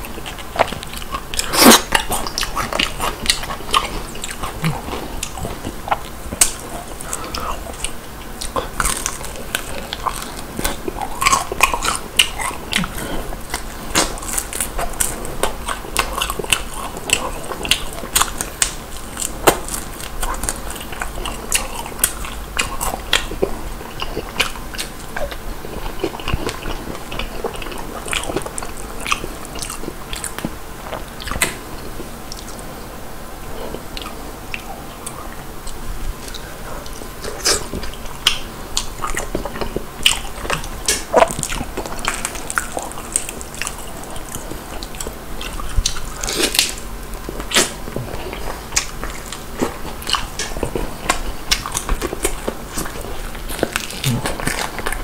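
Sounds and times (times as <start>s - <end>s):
fried chicken crunching: 0.0s - 31.7s, 34.0s - 55.0s.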